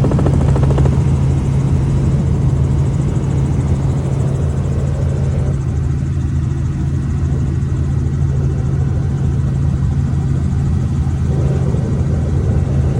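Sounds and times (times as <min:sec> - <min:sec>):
helicopter engine and rotor: 0:00.0 - 0:12.9.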